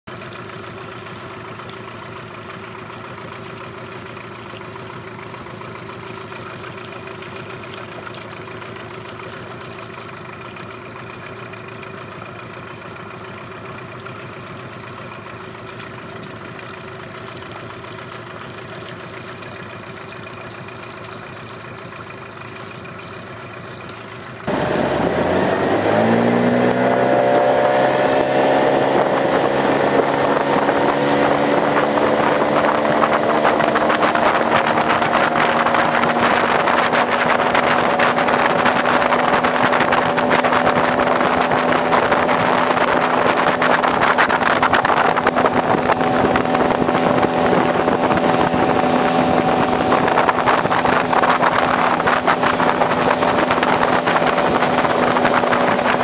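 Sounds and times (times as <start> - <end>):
outboard motor running: 0.1 - 56.0.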